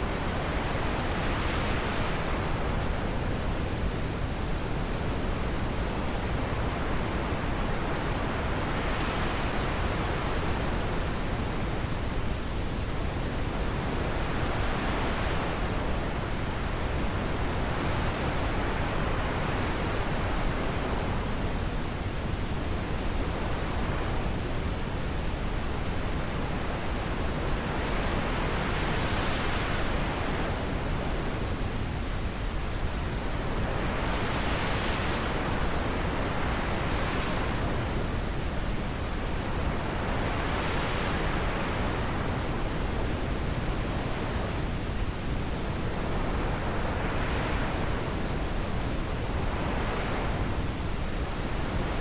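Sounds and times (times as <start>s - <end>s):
wind blowing in gusts: 0.0s - 52.0s.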